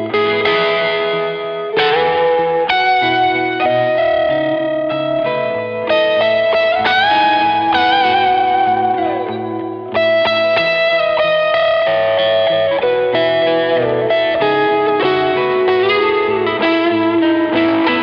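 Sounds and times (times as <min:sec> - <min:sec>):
electric guitar lead melody: 0:00.0 - 0:18.0.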